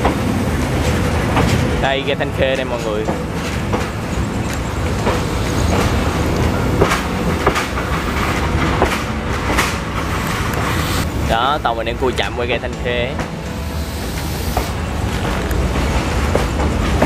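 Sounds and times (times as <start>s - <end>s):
train wheels rumbling on rails: 0.0s - 17.0s
wheels clacking on track: 0.0s - 17.0s.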